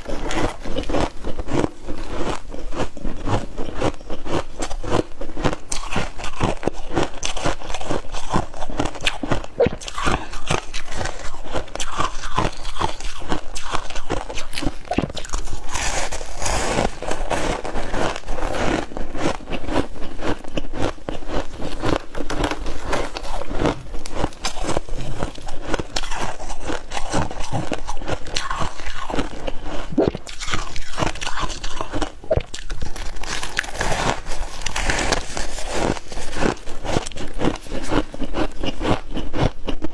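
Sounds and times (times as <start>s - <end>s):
ice being chewed crunching: 0.0s - 39.9s.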